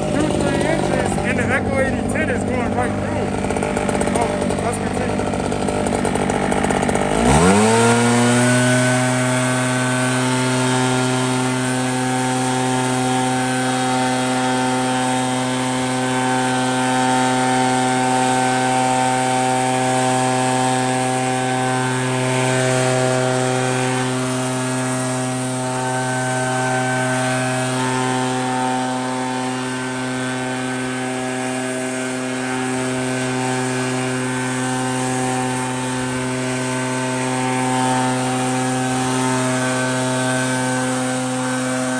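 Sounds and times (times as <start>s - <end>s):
rush of air blowing snow: 0.0s - 5.6s, 6.6s - 41.9s
leaf blower engine revving: 0.0s - 41.9s.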